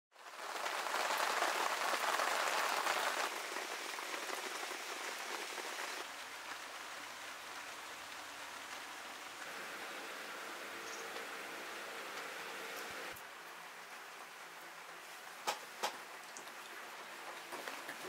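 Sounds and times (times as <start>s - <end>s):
rain on metal railings: 0.1s - 18.0s.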